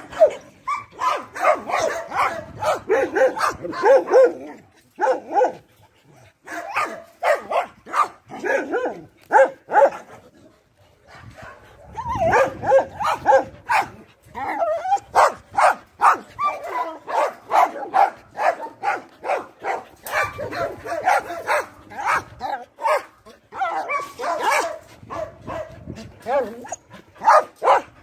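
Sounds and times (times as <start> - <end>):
dogs barking: 0.0 - 5.7, 6.4 - 10.2, 11.0 - 28.0
dogs yipping and whimpering: 0.0 - 7.0, 11.3 - 28.0.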